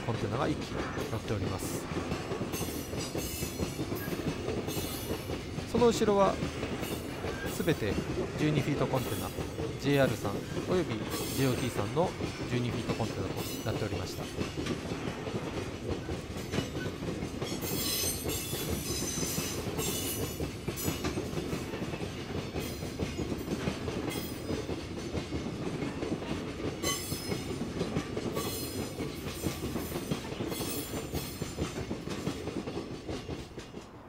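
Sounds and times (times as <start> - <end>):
freight train wheels rumbling: 0.0 - 34.0
wheels clacking over rail joints: 0.0 - 34.0.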